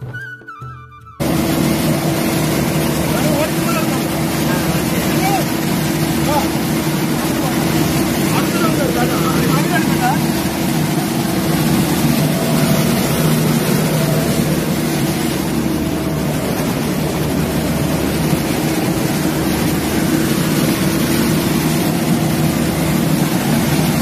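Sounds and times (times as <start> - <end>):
combine harvester engine droning: 1.2 - 24.0.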